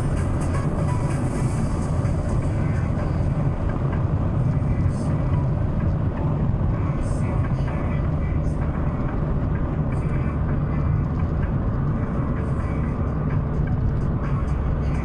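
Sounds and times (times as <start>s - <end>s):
car cabin engine rumble: 0.0s - 15.0s.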